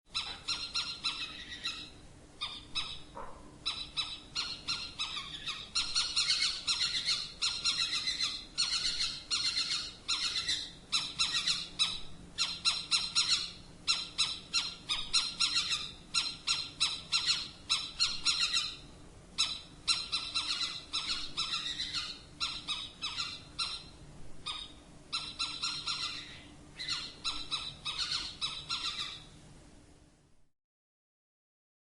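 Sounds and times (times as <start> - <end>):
owl squawking calls: 0.1 - 29.3.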